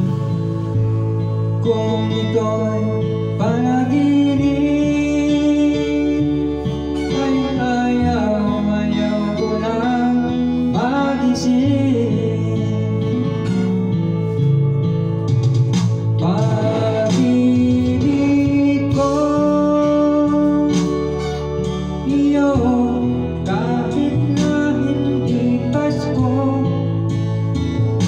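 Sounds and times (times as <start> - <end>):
slow ballad through speakers: 0.0 - 28.0.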